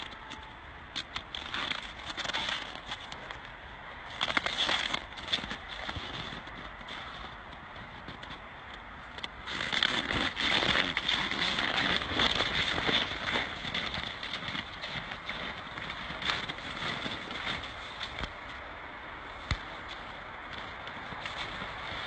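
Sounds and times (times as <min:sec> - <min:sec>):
horse hooves in snow: 0:00.0 - 0:22.0.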